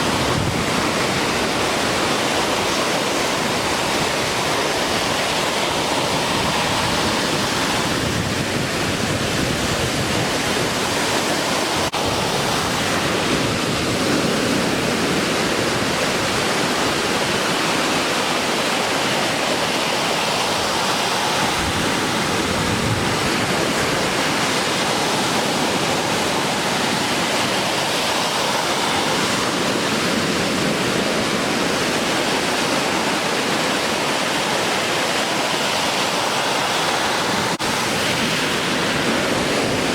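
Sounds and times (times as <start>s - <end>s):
breaking surf rushing: 0.0s - 39.9s.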